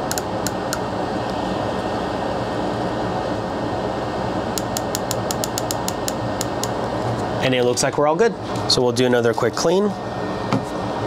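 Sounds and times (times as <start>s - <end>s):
fan-like hum: 0.0s - 11.0s.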